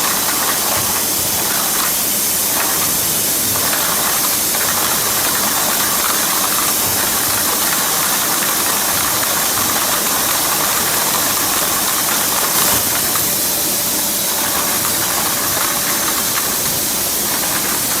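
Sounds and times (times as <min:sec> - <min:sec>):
sorting machine hissing: 0:00.0 - 0:18.0.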